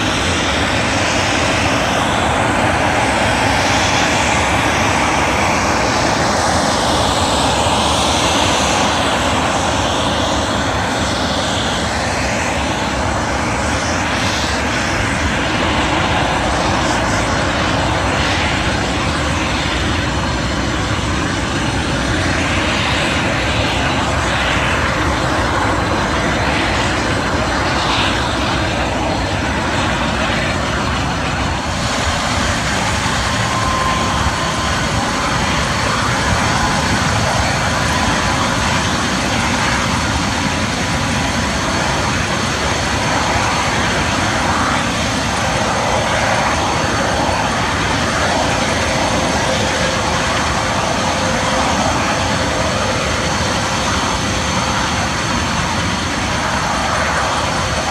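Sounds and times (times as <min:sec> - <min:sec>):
helicopter running with turbine whine: 0:00.0 - 0:57.9
high whine: 0:00.0 - 0:57.9.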